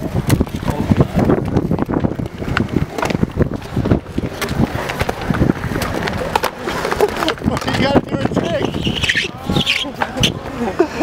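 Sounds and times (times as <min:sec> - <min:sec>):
skateboard wheels rumbling on concrete: 0:00.0 - 0:11.0
wind buffeting microphone: 0:00.0 - 0:11.0.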